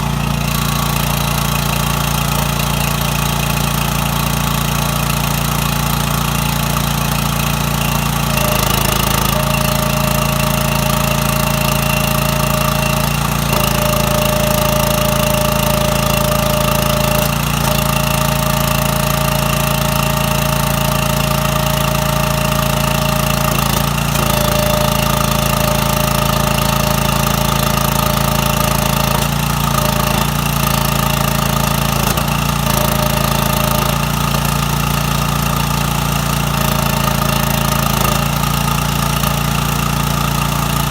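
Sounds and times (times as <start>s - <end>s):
hydraulic pump whine: 0.0s - 40.9s
small gasoline engine running: 0.0s - 40.9s.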